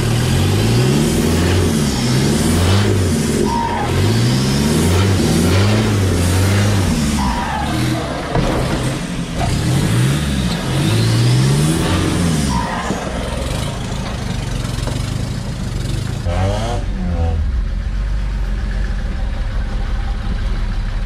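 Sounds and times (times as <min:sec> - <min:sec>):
off-road engine revving: 0:00.0 - 0:21.0.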